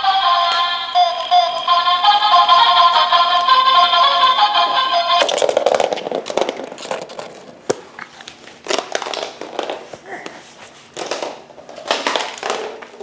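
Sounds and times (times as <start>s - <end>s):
rustling handling noises: 1.0s - 13.0s.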